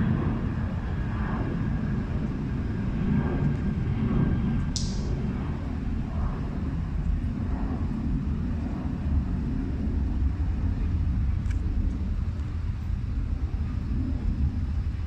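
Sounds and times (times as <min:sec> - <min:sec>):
low rumble of vehicle in motion: 0:00.0 - 0:15.0.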